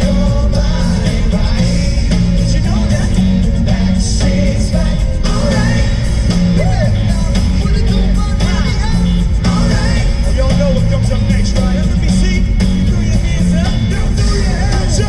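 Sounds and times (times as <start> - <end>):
driving bass line: 0.0 - 15.0
man singing rock song: 0.0 - 15.0
steady drum beat: 0.0 - 15.0.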